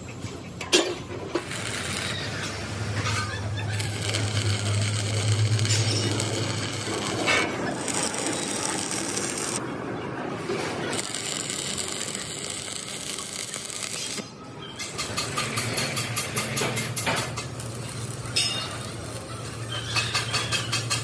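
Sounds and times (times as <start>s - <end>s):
arc welding crackle: 1.2s - 9.6s, 10.5s - 21.0s.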